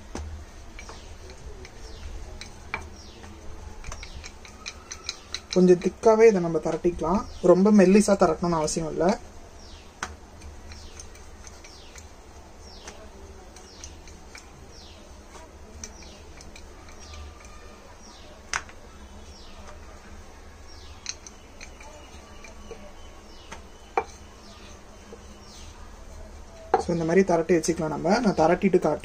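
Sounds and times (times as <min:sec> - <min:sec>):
rolling pin rolling dough: 0:00.0 - 0:09.2, 0:09.8 - 0:28.5
bird chirping: 0:00.0 - 0:29.0
steady low hum: 0:00.0 - 0:29.0.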